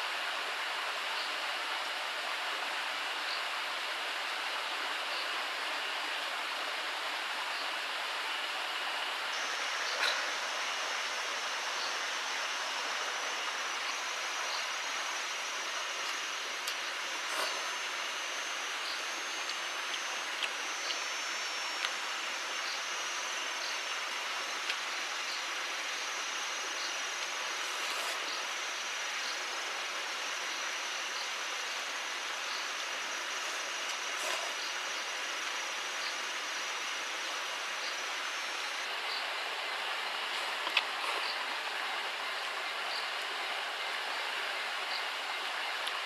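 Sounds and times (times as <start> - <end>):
insects buzzing and chirping: 0.0 - 46.0
stream water flowing: 0.0 - 46.0.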